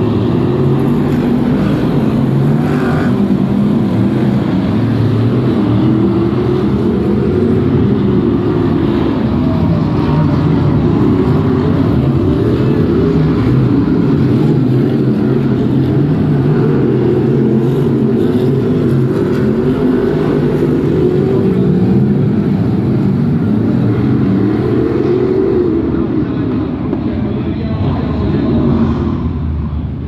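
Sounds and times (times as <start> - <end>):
racing car engines droning: 0.0 - 30.0.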